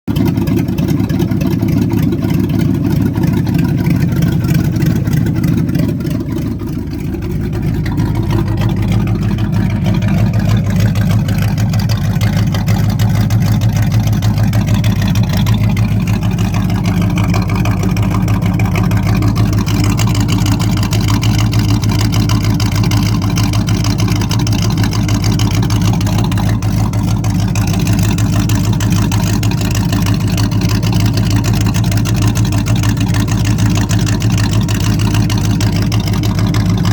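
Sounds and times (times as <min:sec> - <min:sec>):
car engine running steadily: 0:00.0 - 0:36.9.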